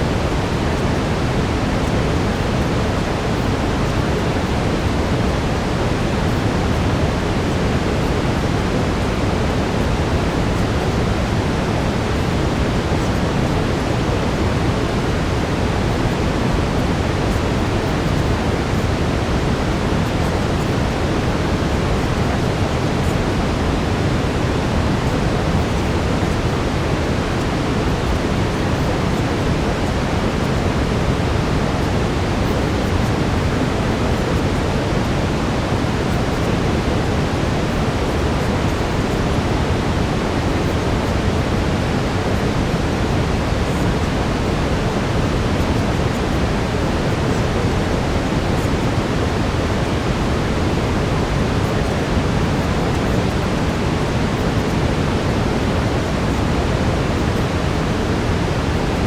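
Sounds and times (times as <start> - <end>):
steady brown noise: 0.0 - 59.0.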